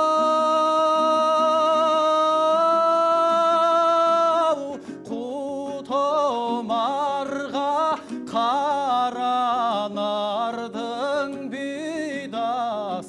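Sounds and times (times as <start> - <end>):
person singing folk song: 0.0 - 13.0
plucked lute accompaniment: 0.0 - 13.0.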